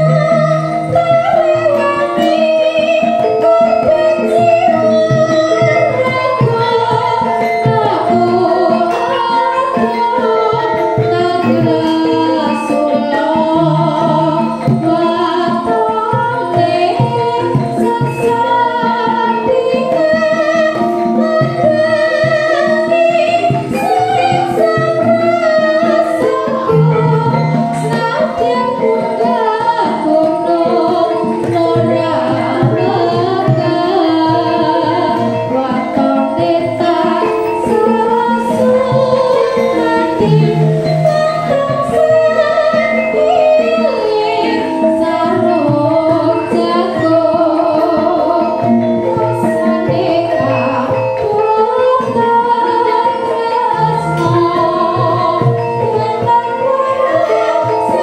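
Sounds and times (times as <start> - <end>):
gamelan gongs playing: 0.0 - 58.0
woman singing: 0.0 - 58.0.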